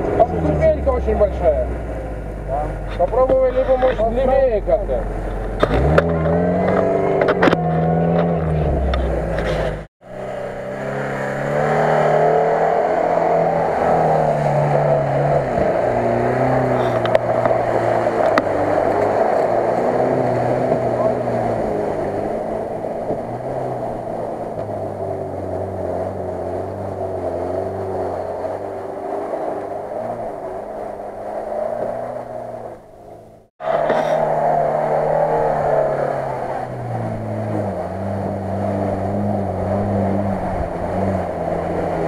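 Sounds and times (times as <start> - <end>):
car engine revving hard: 0.0 - 42.0
vehicle churning through mud: 0.0 - 42.0.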